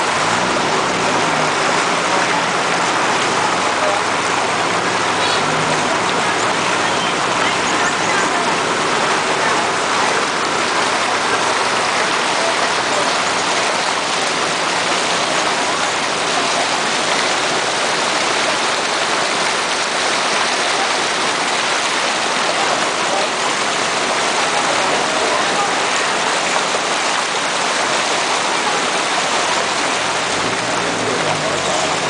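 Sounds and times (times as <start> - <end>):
floodwater rushing and splashing: 0.0 - 32.0.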